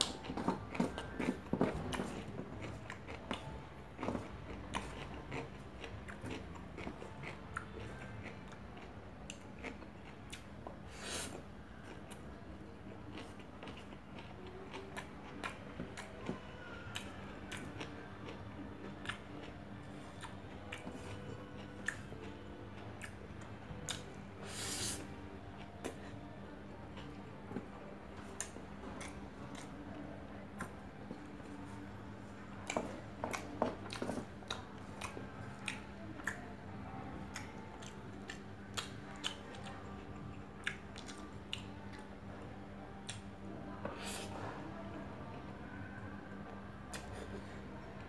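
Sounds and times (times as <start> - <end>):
person chewing food: 0.0 - 36.6, 37.2 - 42.1
steady low hum: 0.0 - 48.0.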